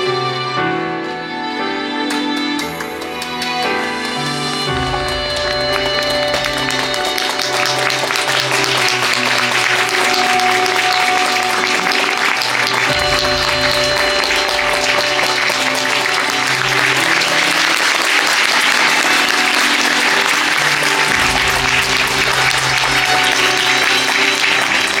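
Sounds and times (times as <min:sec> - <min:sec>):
background music with sustained notes: 0:00.0 - 0:25.0
audience applauding: 0:02.0 - 0:25.0.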